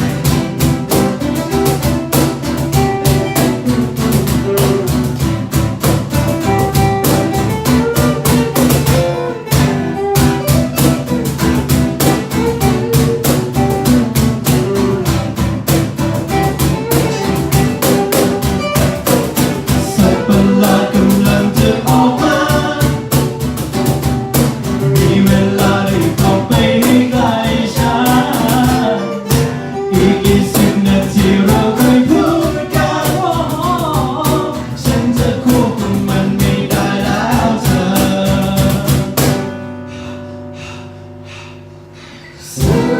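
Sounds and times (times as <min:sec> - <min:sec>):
drum beat: 0:00.0 - 0:39.6, 0:42.6 - 0:42.9
guitar: 0:00.0 - 0:42.9.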